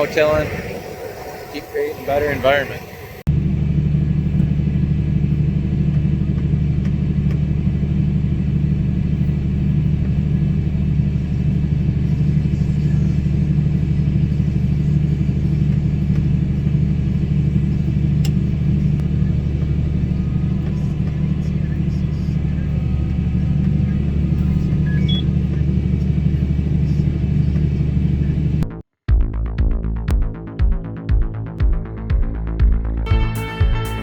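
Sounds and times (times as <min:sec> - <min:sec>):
tractor engine running steadily: 0:00.0 - 0:28.7.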